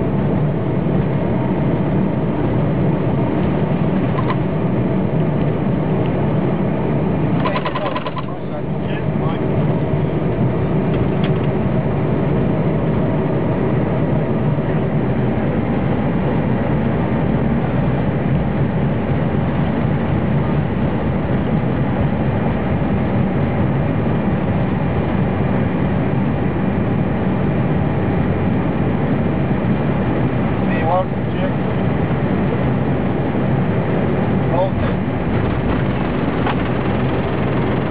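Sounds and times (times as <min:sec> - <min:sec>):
aircraft cockpit engine rumble: 0:00.0 - 0:37.9.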